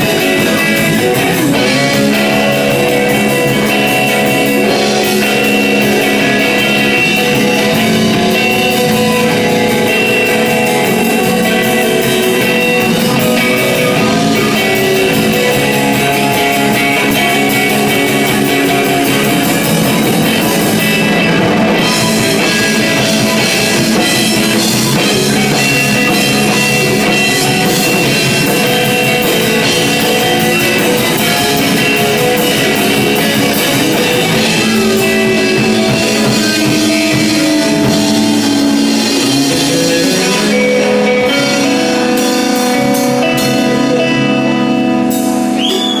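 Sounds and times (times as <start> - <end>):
rock band playing live: 0.0 - 46.0.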